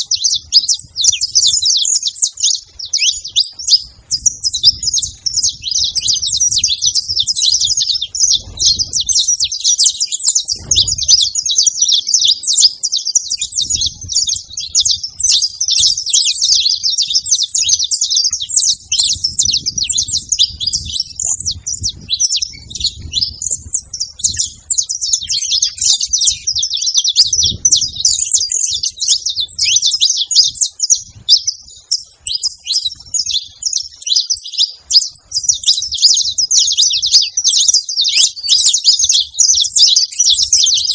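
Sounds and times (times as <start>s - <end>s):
flock of finches chirping: 0.0s - 40.9s.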